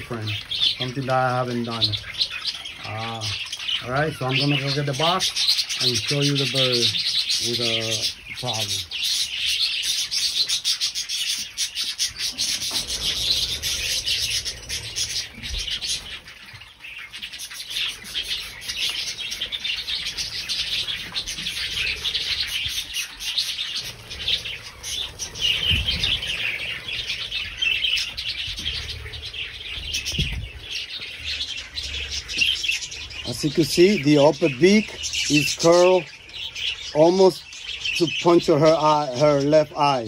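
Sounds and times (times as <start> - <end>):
budgerigars chirping and chattering: 0.0 - 40.0.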